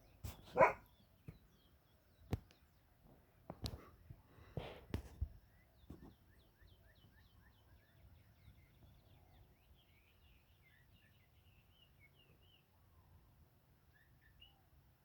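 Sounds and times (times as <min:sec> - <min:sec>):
faint bird chirping: 0:00.0 - 0:03.4, 0:05.0 - 0:15.0.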